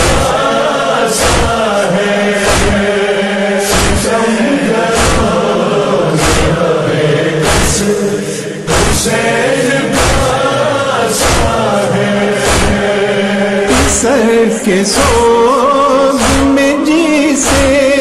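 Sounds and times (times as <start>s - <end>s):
chest-beating slaps: 0.0s - 0.5s, 1.1s - 6.8s, 7.4s - 14.2s, 15.0s - 15.4s, 16.2s - 16.8s, 17.4s - 18.0s
men chanting in unison: 0.0s - 18.0s.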